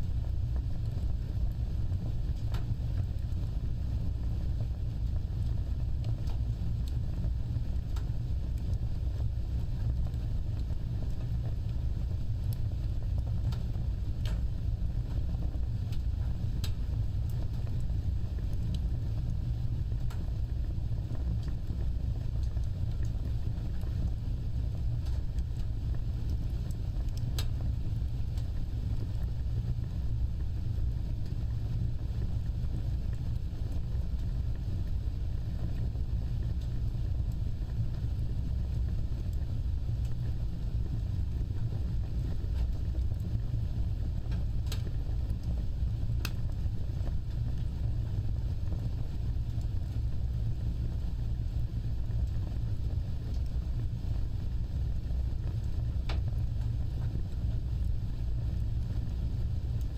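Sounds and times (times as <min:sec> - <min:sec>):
fire crackling pops: 0:00.0 - 0:59.9
fire flames rumbling: 0:00.0 - 0:59.9.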